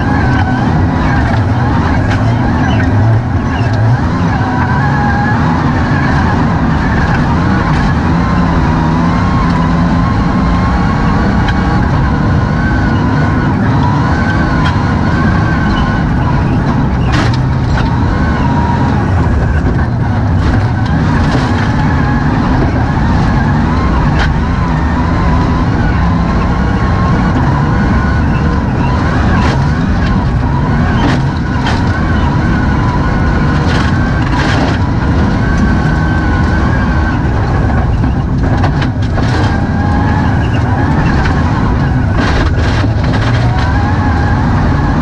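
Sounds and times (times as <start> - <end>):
car engine under load: 0.0 - 45.0
car knocking and rattling over bumps: 0.0 - 45.0.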